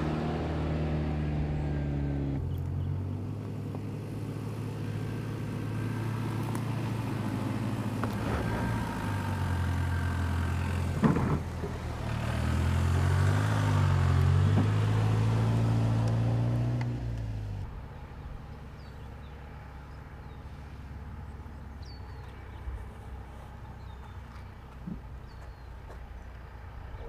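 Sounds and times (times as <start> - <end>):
suv engine running: 0.0 - 26.4.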